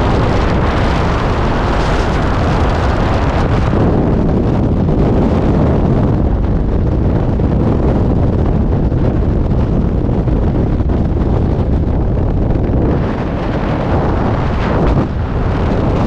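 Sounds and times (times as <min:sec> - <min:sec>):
wind blasting microphone: 0:00.0 - 0:16.0.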